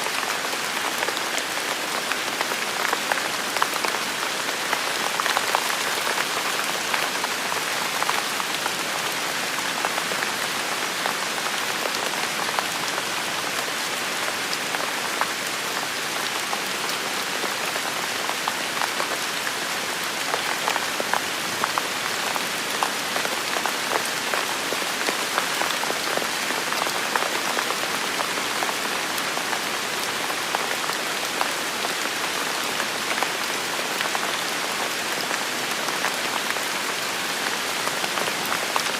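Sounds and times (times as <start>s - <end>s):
rain on hard surfaces: 0.0s - 38.9s
raindrops ticking and spattering: 0.1s - 38.9s.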